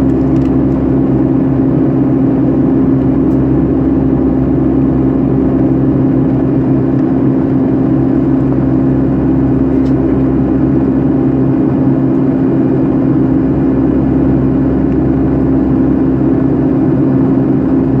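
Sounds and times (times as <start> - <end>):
jet cabin engine drone: 0.0 - 18.0.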